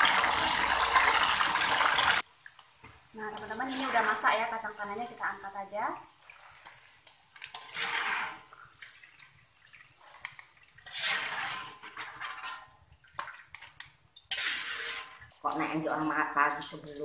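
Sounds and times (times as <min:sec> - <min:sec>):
peanuts sizzling in hot oil: 0:00.0 - 0:17.0.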